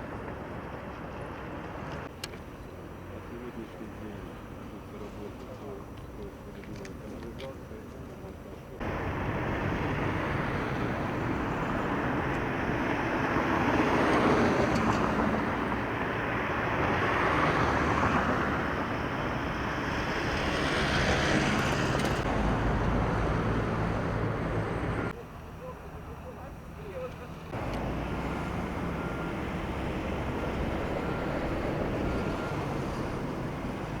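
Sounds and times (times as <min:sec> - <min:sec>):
vehicles passing: 0:00.0 - 0:34.0.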